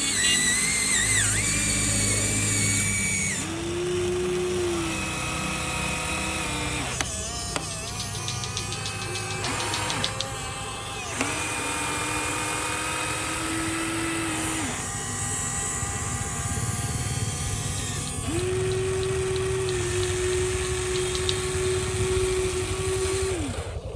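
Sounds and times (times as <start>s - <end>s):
small electric motors whining: 0.0s - 23.9s.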